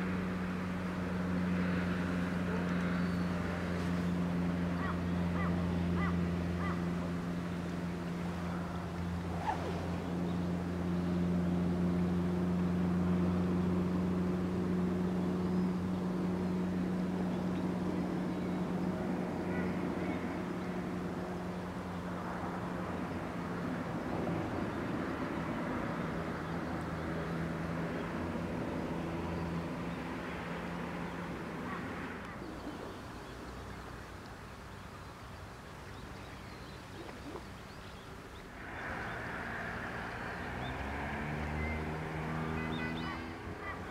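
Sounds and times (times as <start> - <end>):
distant engine humming: 0.0 - 35.2, 35.9 - 43.9.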